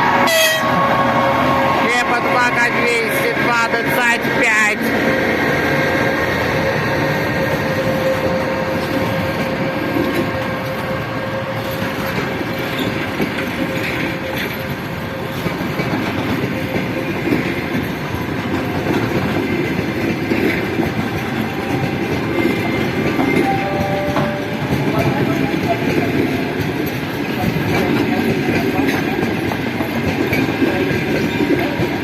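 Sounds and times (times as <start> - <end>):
train wheels rolling on rails: 0.0 - 32.0.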